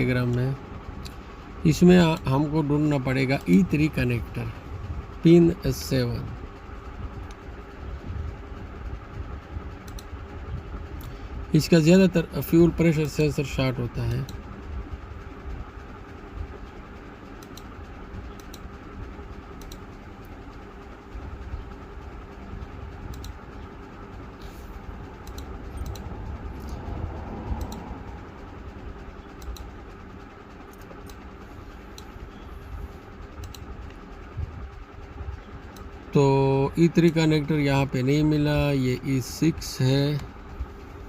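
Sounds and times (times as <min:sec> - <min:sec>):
low background rumble: 0:00.0 - 0:41.0.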